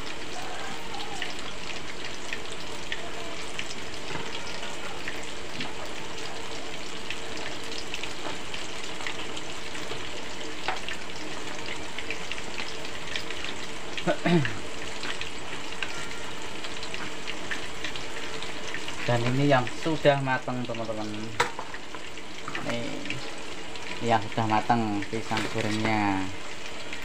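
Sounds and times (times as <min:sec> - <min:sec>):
food deep-frying in oil: 0:00.0 - 0:27.0.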